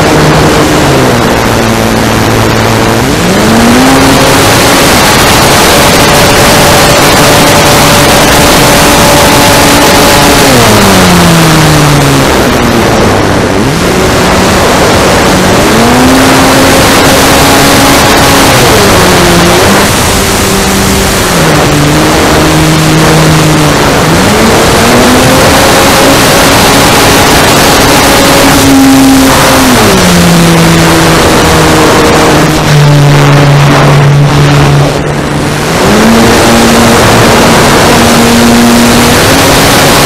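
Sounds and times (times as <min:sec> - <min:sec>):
wind rush on microphone: 0:00.0 - 0:40.0.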